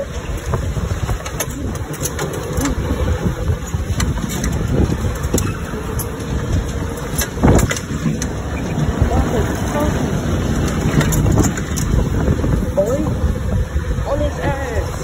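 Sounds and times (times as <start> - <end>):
go-kart rumble: 0.0 - 15.0.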